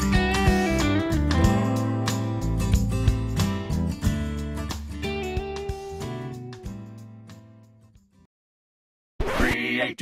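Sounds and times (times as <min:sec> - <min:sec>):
background guitar music: 0:00.0 - 0:08.1.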